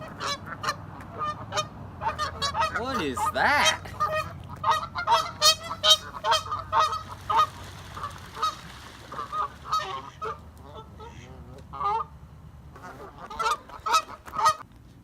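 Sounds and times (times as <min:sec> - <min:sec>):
geese honking: 0:00.0 - 0:14.6.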